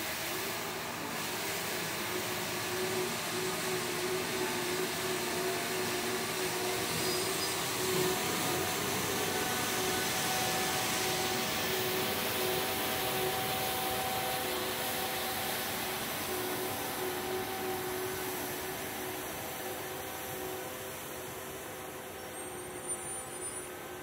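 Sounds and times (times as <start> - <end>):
engine and fan hum: 0.0 - 24.0
street sweeper rushing noise: 0.0 - 24.0.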